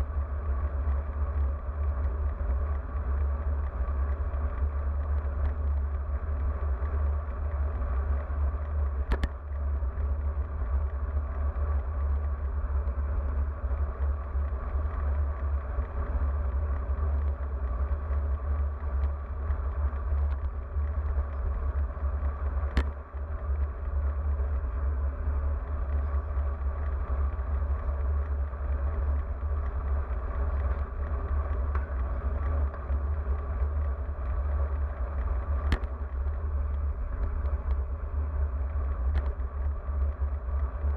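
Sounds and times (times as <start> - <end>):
wind rumble on microphone: 0.0 - 40.9.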